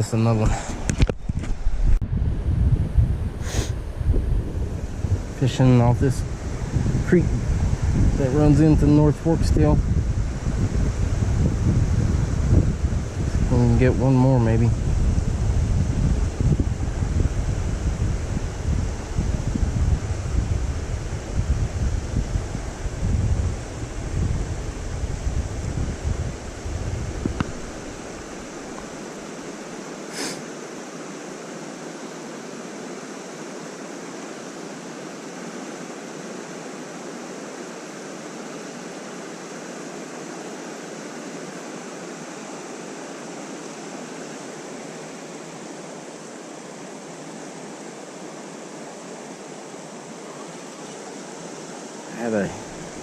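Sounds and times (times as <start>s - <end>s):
creek water rushing: 3.5s - 53.0s.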